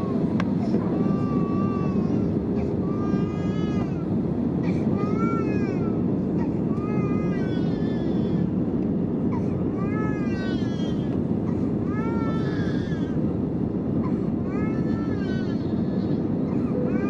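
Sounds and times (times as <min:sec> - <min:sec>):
airplane cabin noise: 0:00.0 - 0:17.0.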